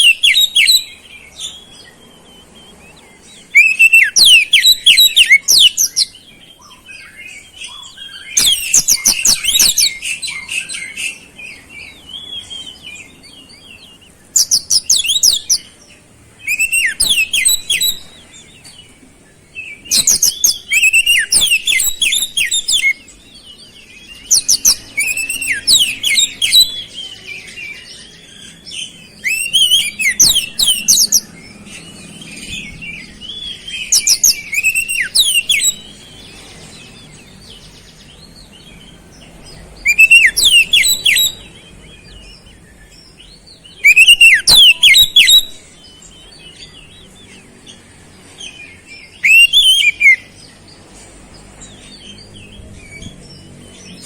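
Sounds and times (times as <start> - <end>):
bird calls: 0.0 - 54.0
bird singing high sweeping notes: 0.0 - 54.0.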